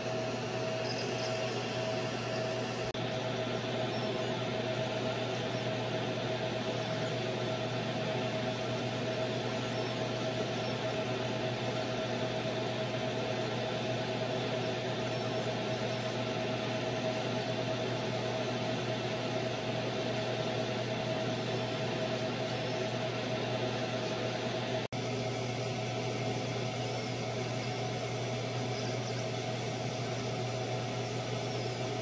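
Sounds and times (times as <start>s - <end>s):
laser engraver fan hum: 0.0s - 32.0s.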